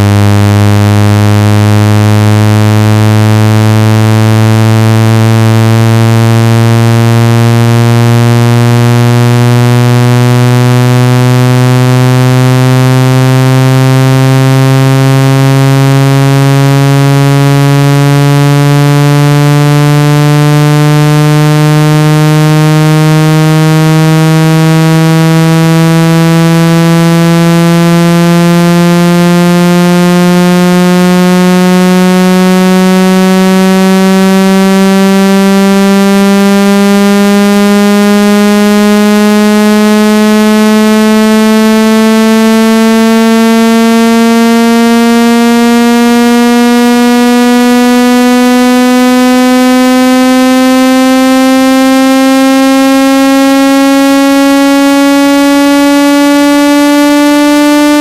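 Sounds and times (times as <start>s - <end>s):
low electronic tone rising: 0.0s - 58.0s.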